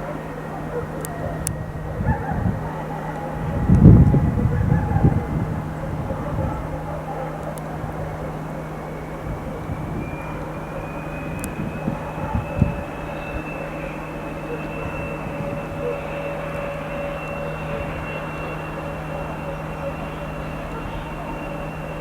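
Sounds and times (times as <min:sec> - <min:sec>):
low diesel engine drone: 0:00.0 - 0:22.0
turbocharger whistle: 0:00.0 - 0:22.0.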